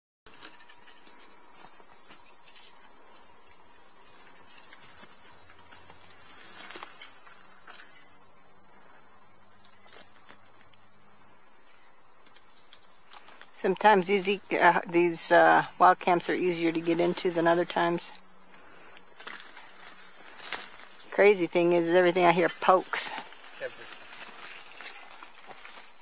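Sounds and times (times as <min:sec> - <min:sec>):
cicadas singing: 0:00.3 - 0:26.0.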